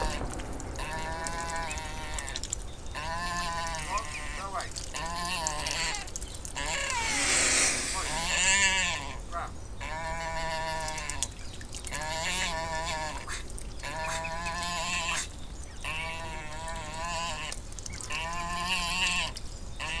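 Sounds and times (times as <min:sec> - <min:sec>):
grebe calling: 0:00.0 - 0:20.0.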